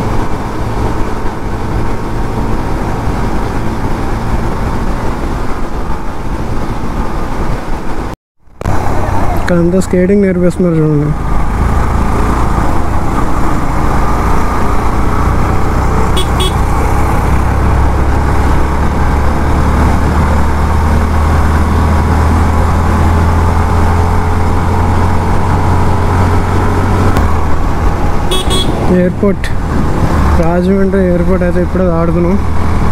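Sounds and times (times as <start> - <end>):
wind rumble on microphone: 0.0 - 10.2, 11.1 - 32.9
motorcycle engine: 0.0 - 32.9.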